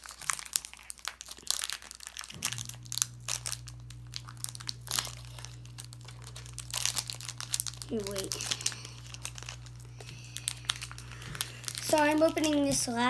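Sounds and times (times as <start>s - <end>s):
foil wrapper crinkling: 0.0s - 13.0s
low steady hum: 2.3s - 13.0s.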